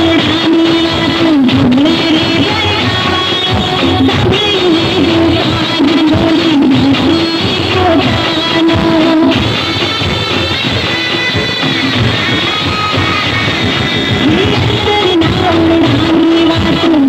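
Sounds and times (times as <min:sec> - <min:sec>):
guitar music: 0:00.0 - 0:17.0
wavering lead melody: 0:00.0 - 0:17.0.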